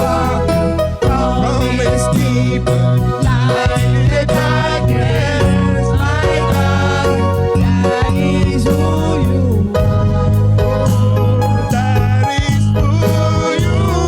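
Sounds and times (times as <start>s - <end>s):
people singing: 0.0s - 10.0s, 10.8s - 14.0s
gospel band playing slow song: 0.0s - 14.0s.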